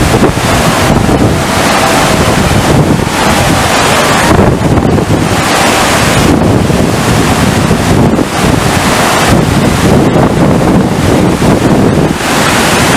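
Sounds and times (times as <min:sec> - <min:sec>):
rushing water spray: 0:00.0 - 0:12.9
wind buffeting microphone: 0:00.0 - 0:12.9.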